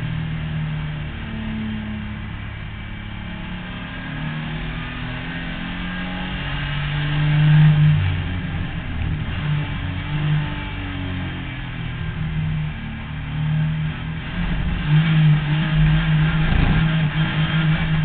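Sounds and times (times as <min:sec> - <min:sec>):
race car engine revving: 0:00.8 - 0:18.0.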